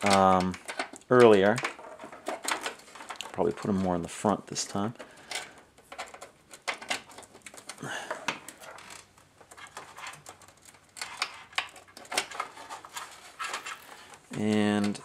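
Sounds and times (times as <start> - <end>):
cables rustling and knocking: 0.0 - 15.0.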